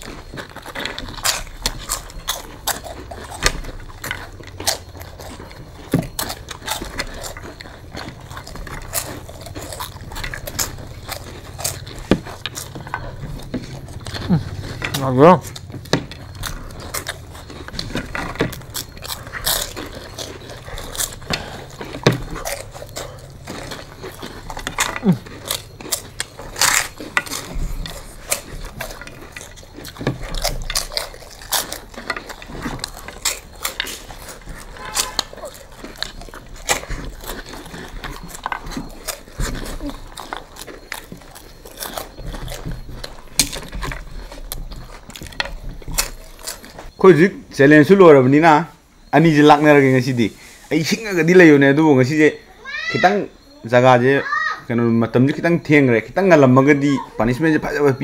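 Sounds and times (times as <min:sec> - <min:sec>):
crunching and chewing: 0:00.0 - 0:58.0.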